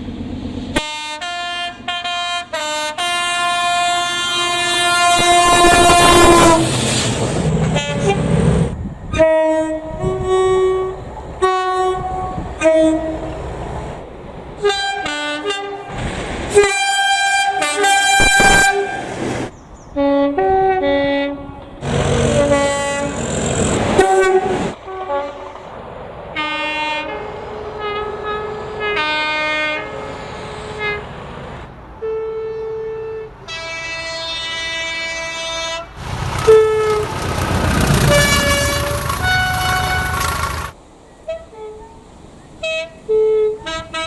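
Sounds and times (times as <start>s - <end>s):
rumble of passing train: 0.0s - 44.0s
two-tone locomotive horn blasts: 0.7s - 8.5s, 9.1s - 13.4s, 14.6s - 19.2s, 20.0s - 25.7s, 26.3s - 31.2s, 32.0s - 44.0s.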